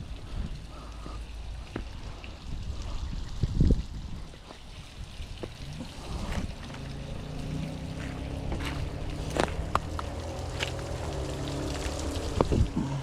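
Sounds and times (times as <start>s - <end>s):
water running over a dam: 0.0s - 13.0s.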